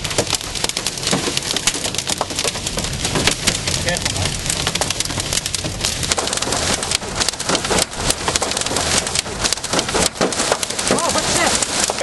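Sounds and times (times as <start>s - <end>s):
heavy rain on car windscreen: 0.0s - 12.0s.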